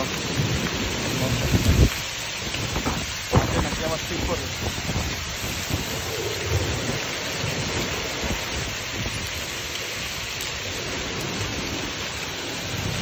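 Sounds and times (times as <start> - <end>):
heavy rain with hail: 0.0 - 13.0.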